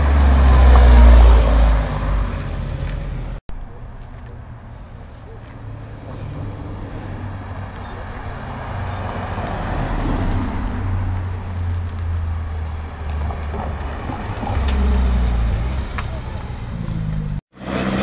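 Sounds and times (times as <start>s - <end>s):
car engines passing: 0.0s - 18.0s.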